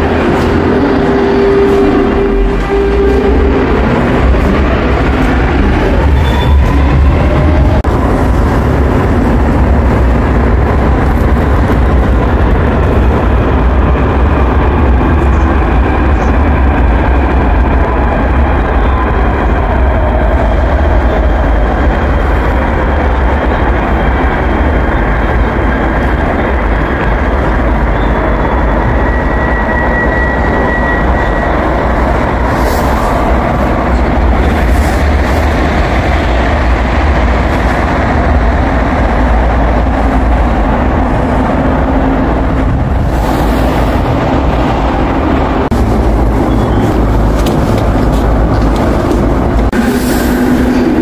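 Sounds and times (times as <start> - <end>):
subway train wheels rumbling: 0.0 - 51.0.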